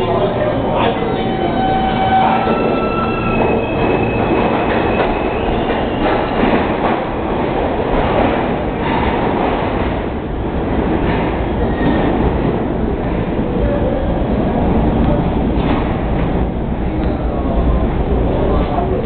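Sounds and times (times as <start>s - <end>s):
subway train wheel and rail noise: 0.0s - 19.0s.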